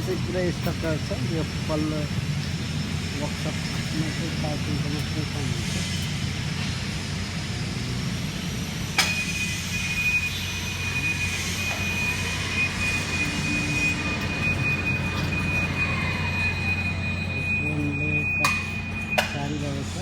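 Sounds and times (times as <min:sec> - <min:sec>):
high-pitched whine: 0:00.0 - 0:20.0
workshop machinery hum: 0:00.0 - 0:20.0.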